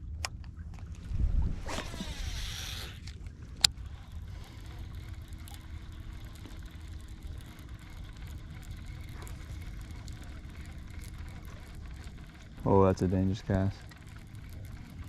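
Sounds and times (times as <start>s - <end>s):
outboard motor running: 0.9s - 15.0s.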